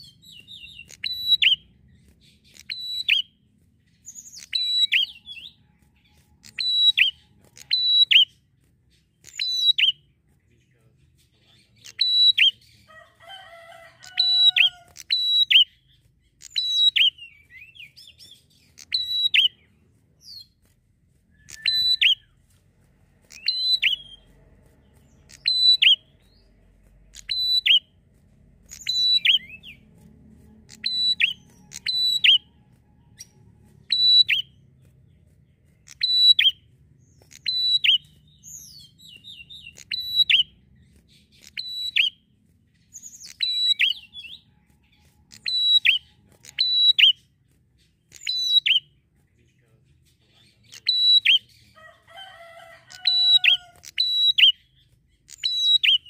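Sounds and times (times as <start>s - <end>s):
bird chirping high and sharp: 0.0s - 10.2s, 11.2s - 20.7s, 21.3s - 22.6s, 23.2s - 49.1s, 50.0s - 56.0s.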